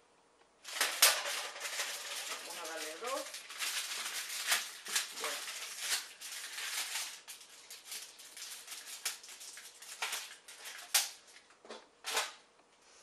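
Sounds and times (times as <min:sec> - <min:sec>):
parchment paper rustling and crinkling: 0:00.6 - 0:12.4.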